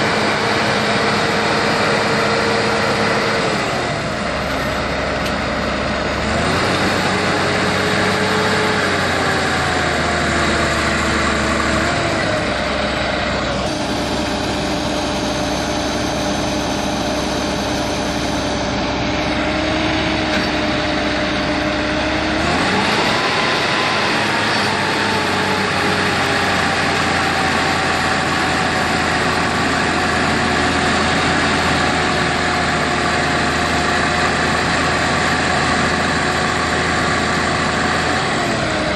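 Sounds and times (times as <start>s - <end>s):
heavy machinery diesel engines: 0.0s - 38.9s.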